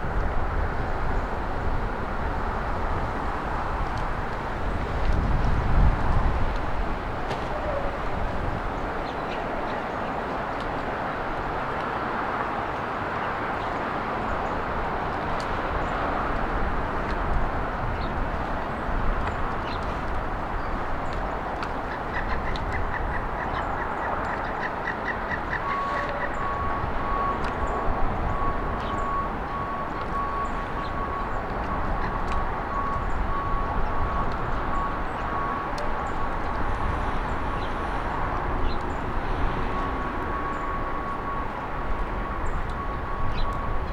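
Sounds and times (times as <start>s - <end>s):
road traffic noise: 0.0s - 43.9s.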